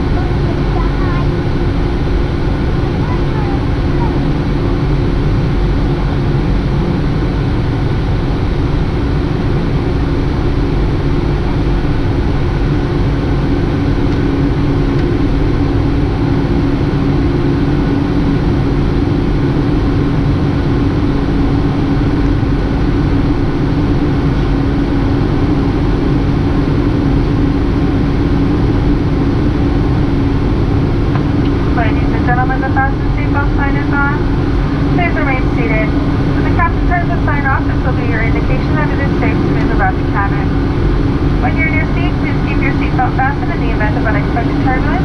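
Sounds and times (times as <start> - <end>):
jet engines droning: 0.0 - 45.0
low hum: 0.0 - 45.0.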